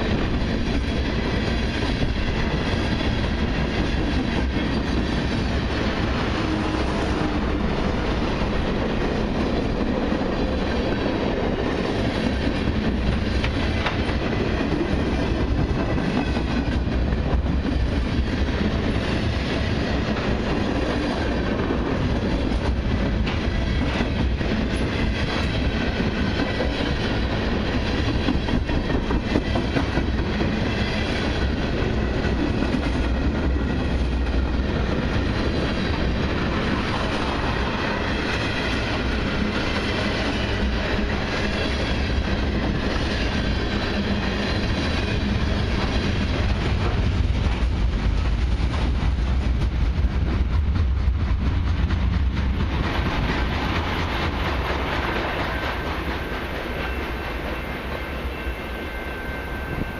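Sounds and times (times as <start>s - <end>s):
freight train rolling past: 0.0s - 59.9s
steel wheels clickety-clack on rail: 0.0s - 59.9s.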